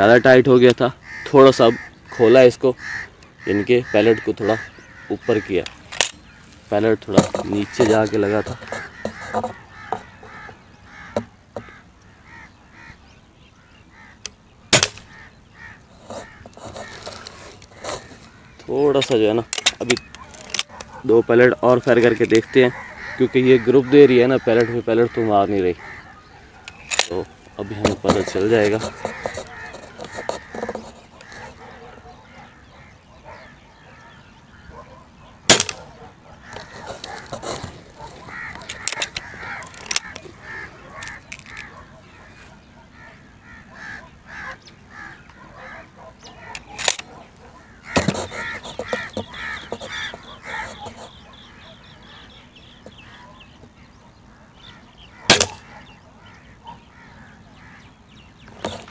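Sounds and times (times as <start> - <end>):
bird calling: 0.0 - 58.9.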